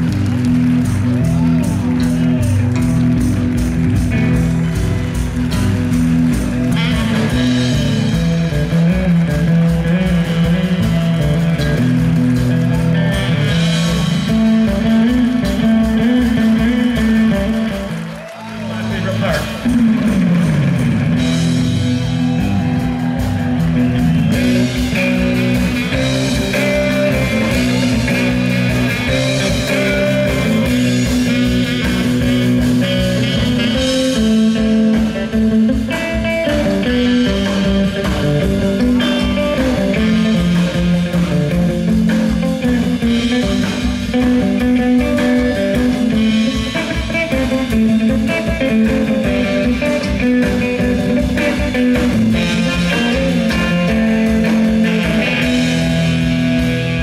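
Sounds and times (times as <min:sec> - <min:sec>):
bass guitar: 0:00.0 - 0:57.0
lead guitar: 0:00.0 - 0:57.0
steady drum beat: 0:00.0 - 0:57.0.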